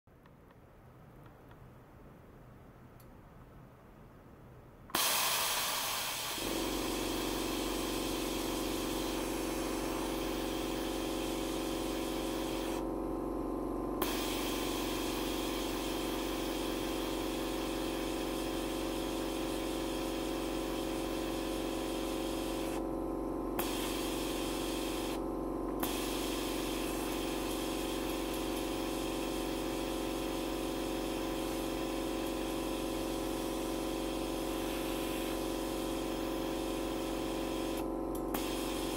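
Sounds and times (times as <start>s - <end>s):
steady multi-tone hum: 0.1s - 38.9s
hiss: 5.0s - 12.8s, 14.0s - 22.8s, 23.6s - 25.2s, 25.8s - 38.9s.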